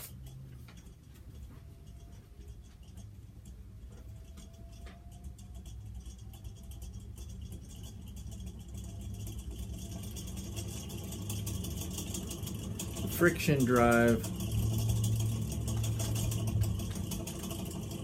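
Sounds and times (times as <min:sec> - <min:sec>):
ceiling fan motor hum and rattle: 0:00.0 - 0:18.0.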